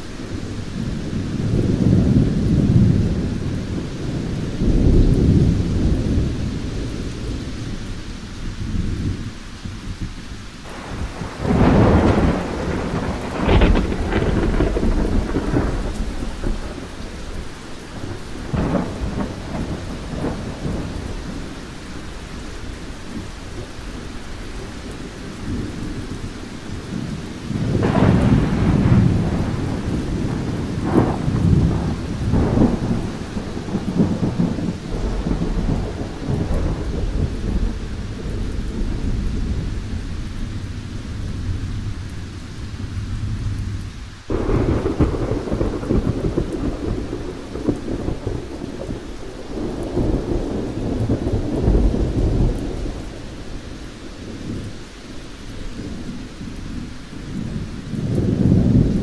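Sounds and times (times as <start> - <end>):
crackling thunder peals: 0.0 - 59.0
rolling thunder: 0.0 - 59.0
steady rain: 0.0 - 59.0.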